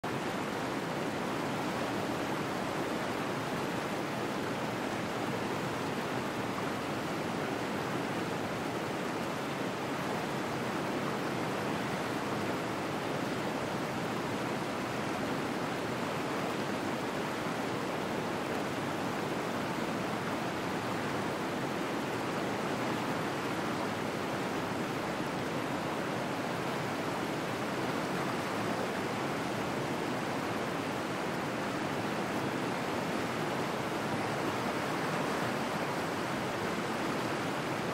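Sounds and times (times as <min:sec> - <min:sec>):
waterfall and rapids rushing: 0:00.0 - 0:37.9.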